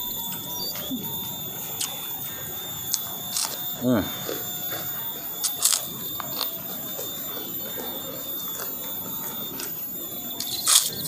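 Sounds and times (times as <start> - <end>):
steady high whine: 0.0 - 11.0.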